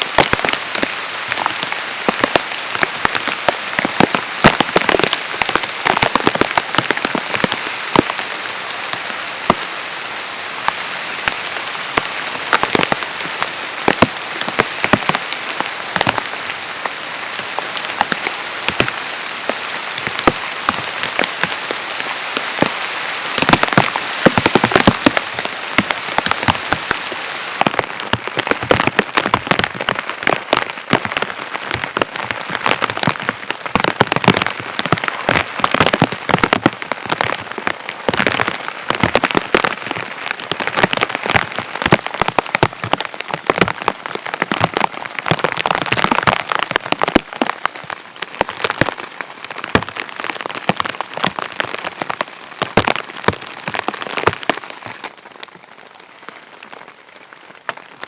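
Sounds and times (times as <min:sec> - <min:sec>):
heavy rain hissing: 0:00.0 - 0:58.0
loud raindrops striking close: 0:00.0 - 0:58.0.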